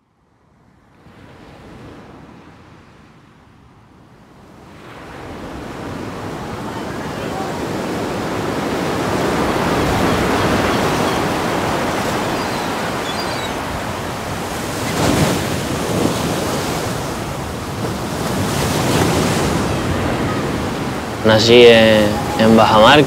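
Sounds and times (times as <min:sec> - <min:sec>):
surf breaking on rocky shore: 0:04.5 - 0:23.0.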